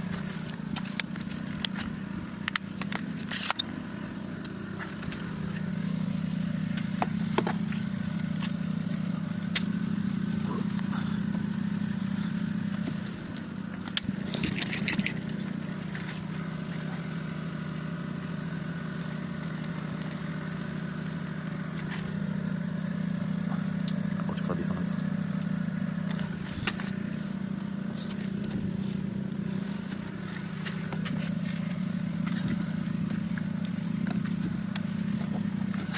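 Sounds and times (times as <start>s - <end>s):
diesel engine droning: 0.0s - 35.9s.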